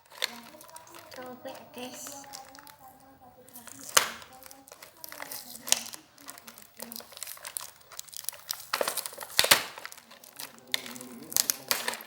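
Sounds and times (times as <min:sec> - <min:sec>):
packing tape crinkling and tearing: 0:00.0 - 0:12.0.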